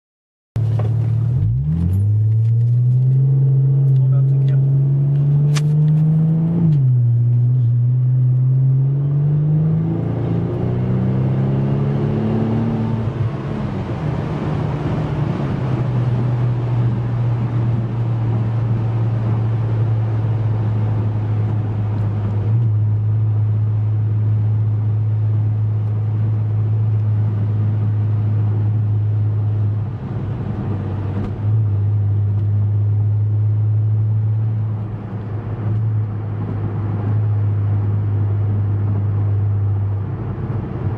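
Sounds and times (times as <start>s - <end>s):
car engine revving: 0.6s - 40.9s.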